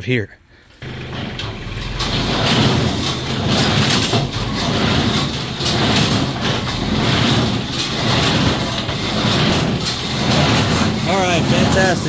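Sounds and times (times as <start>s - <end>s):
tractor engine running: 0.7s - 12.0s
baler rhythmic clatter: 0.9s - 12.0s.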